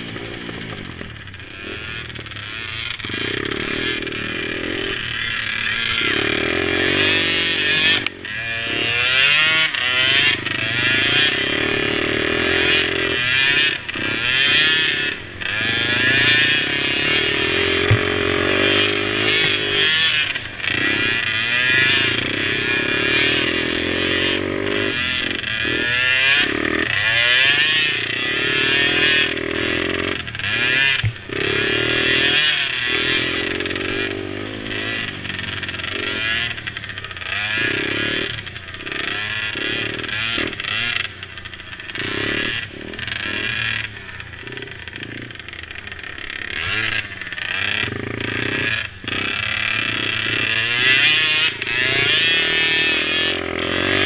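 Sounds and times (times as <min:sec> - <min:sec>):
mini quad engines racing: 0:00.0 - 0:54.0.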